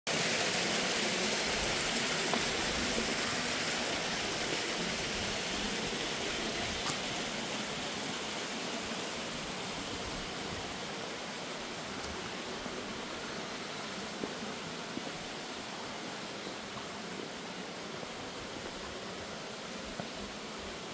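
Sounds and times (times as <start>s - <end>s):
stream water flowing: 0.1s - 20.9s.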